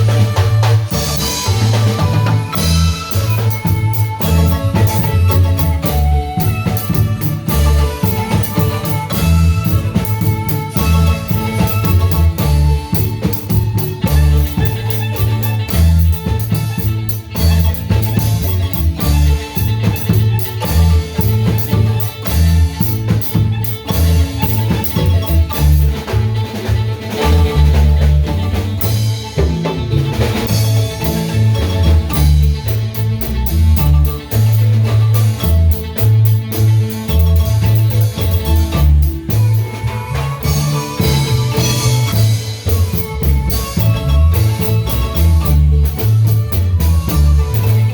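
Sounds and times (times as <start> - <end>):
bass line: 0.0 - 47.9
drum kit beat: 0.0 - 47.9
marimba ensemble playing: 0.0 - 47.9.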